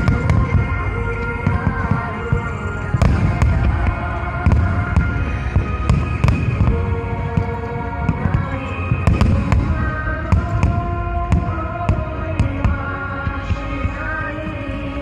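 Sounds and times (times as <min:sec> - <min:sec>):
fireworks bursting: 0:00.0 - 0:15.0
music with long held notes: 0:00.0 - 0:15.0.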